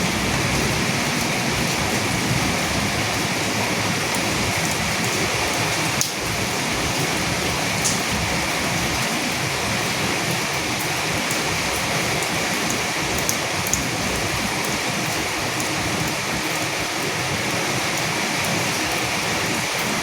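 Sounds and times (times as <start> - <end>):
raindrop ticks: 0.0 - 17.2
rain falling on dead leaves: 0.0 - 20.0.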